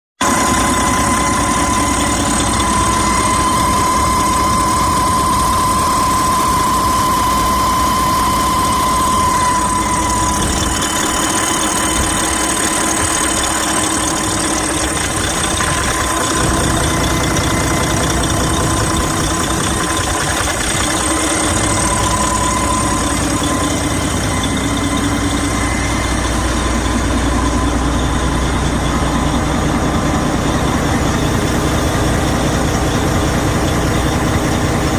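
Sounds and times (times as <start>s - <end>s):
diesel engine idling: 0.2s - 34.9s
high whine: 0.2s - 34.9s.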